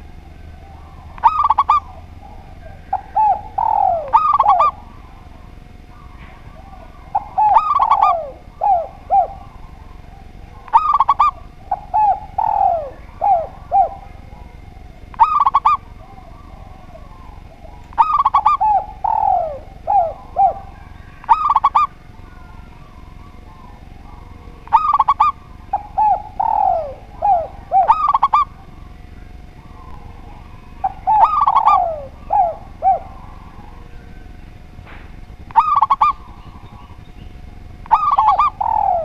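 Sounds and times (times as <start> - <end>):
high dove notes: 0.0 - 39.0
low falling dove coos: 0.0 - 39.0.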